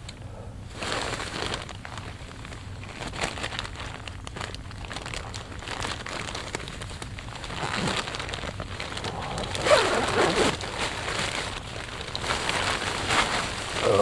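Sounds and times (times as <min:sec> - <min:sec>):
sleeping bag fabric rustling: 0:00.7 - 0:14.0.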